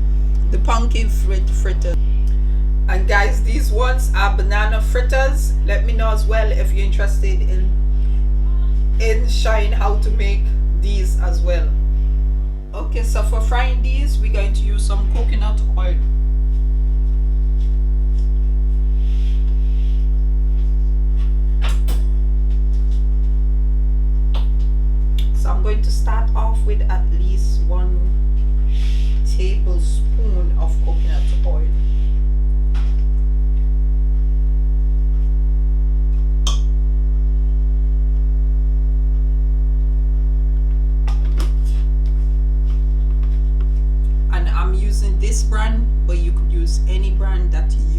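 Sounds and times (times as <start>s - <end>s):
electrical mains hum: 0.0s - 47.9s.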